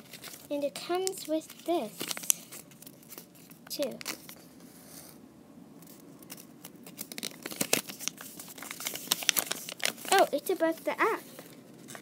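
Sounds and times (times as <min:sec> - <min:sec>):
paper leaflet crinkling: 0:00.0 - 0:04.5, 0:05.8 - 0:12.0.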